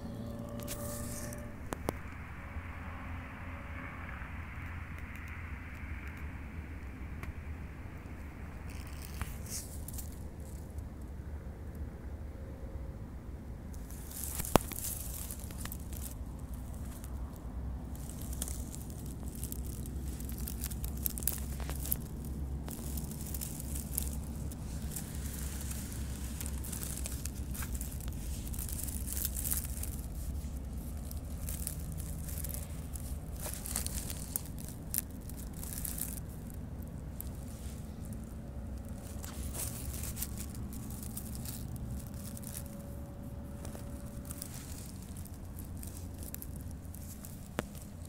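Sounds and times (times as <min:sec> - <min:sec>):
crackling rustle of forest litter: 0:00.0 - 0:12.0, 0:13.6 - 0:48.0.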